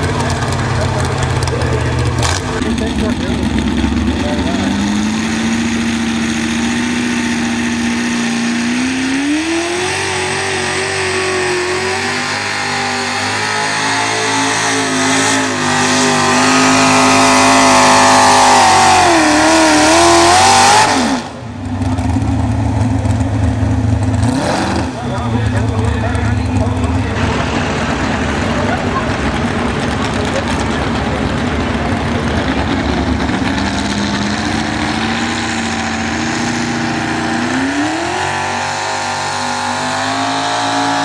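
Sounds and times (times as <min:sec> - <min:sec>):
low engine rumble: 0:00.0 - 0:20.3, 0:21.0 - 0:38.3
truck engine at high revs: 0:00.0 - 0:41.0.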